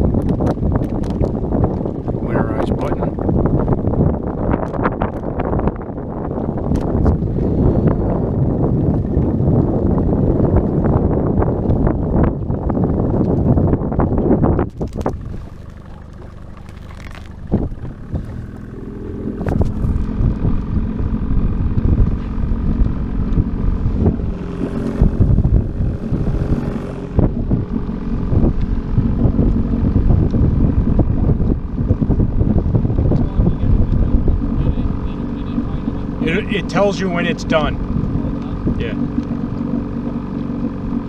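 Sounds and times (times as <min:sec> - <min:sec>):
outboard engine idling: 0:00.0 - 0:41.0
wind on microphone: 0:00.0 - 0:41.0.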